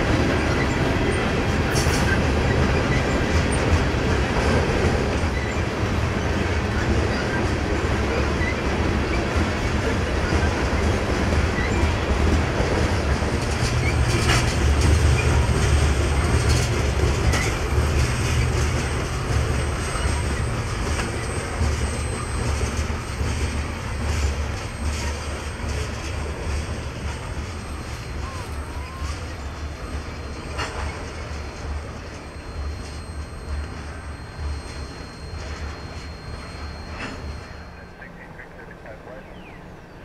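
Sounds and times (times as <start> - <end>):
train wheels clicking: 0.0 - 37.6
train wheels rumbling on rails: 0.0 - 40.0.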